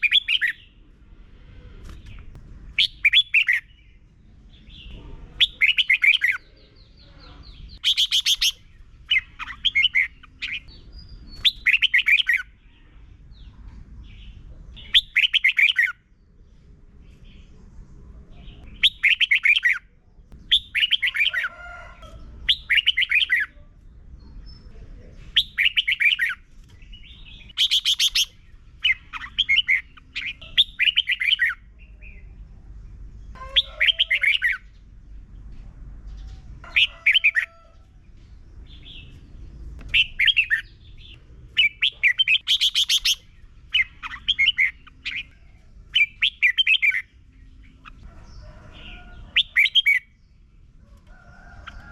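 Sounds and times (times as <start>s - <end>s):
bird singing warbled phrases: 0.0s - 1.0s, 1.8s - 35.0s, 36.0s - 37.8s, 38.6s - 50.5s.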